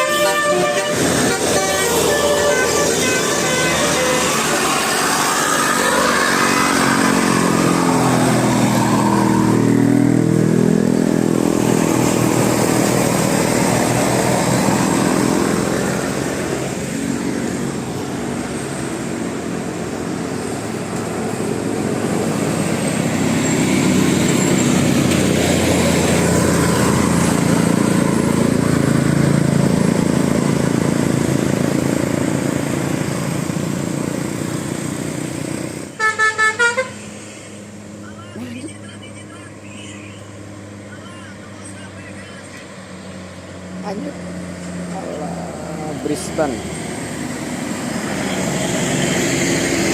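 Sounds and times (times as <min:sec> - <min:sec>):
vehicle engines passing: 0:00.0 - 0:49.9.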